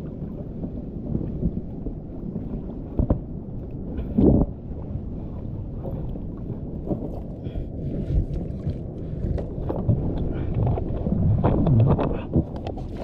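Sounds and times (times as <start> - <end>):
water sloshing around float: 0.0 - 13.0
wind rumbling on microphone: 0.0 - 13.0.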